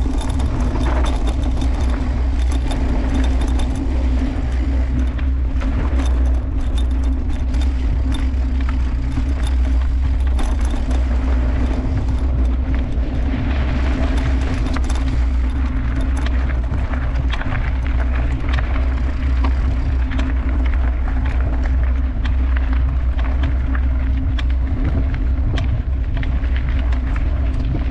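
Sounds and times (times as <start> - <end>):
bike rattling and clicking: 0.0 - 27.9
bike rolling low rumble: 0.0 - 27.9.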